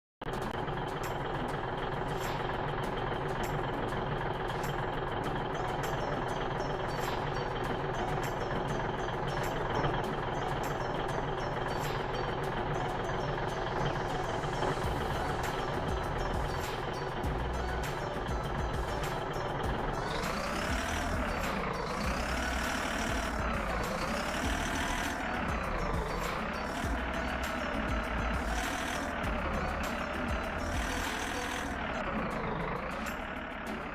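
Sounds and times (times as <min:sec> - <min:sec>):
truck diesel engine running: 0:00.2 - 0:33.9
reversing warning tone: 0:00.3 - 0:33.9.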